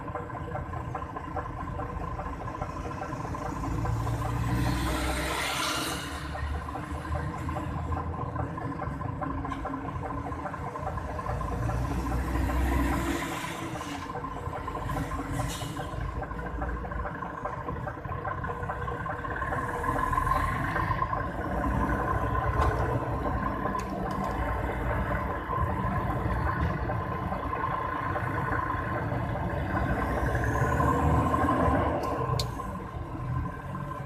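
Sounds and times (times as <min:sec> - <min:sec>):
diesel lorry running: 0:00.0 - 0:34.0
vehicles passing: 0:00.0 - 0:34.0.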